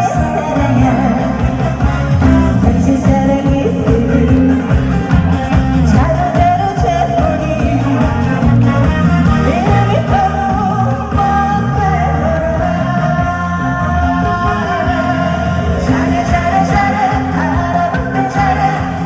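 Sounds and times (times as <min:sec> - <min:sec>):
backing track with beat and bass: 0:00.0 - 0:19.0
woman singing into microphone: 0:00.0 - 0:19.0.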